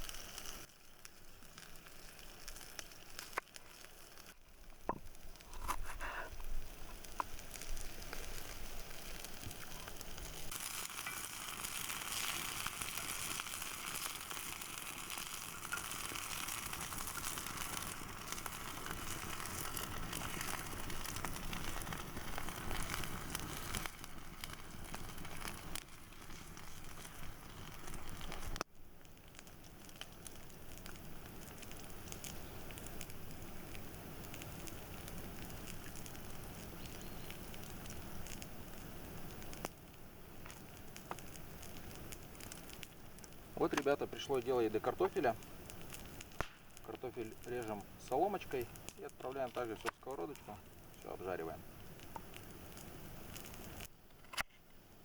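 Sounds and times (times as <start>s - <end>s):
mushrooms sizzling in a pan: 0.0s - 54.1s
small crackles: 0.0s - 55.0s.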